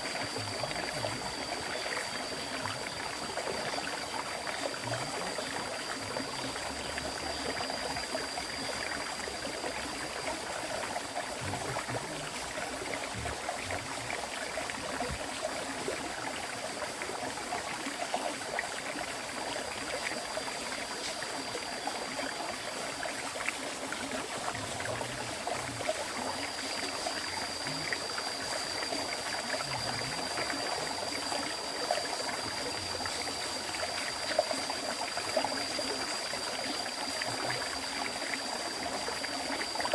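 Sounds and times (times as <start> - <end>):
faint high whine: 0.0 - 17.8, 18.6 - 39.9
river water flowing: 0.0 - 39.9.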